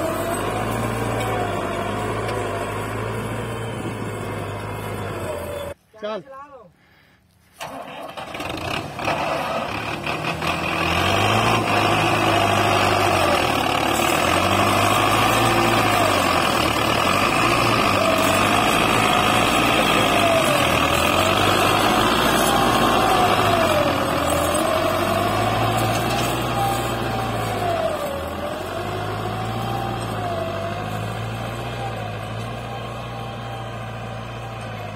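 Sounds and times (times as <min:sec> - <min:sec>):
tractor diesel engine under load: 0:00.0 - 0:05.8, 0:07.6 - 0:34.9.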